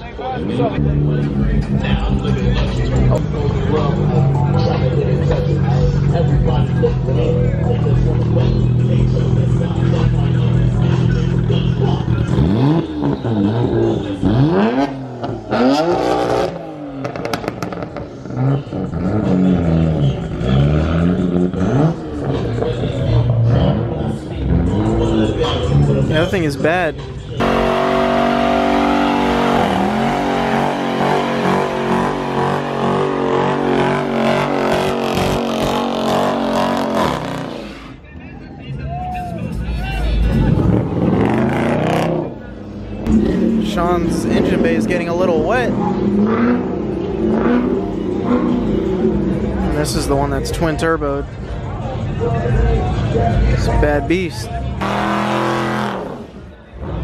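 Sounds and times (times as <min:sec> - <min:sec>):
car engine revving: 0:00.0 - 0:38.0, 0:39.4 - 0:57.0.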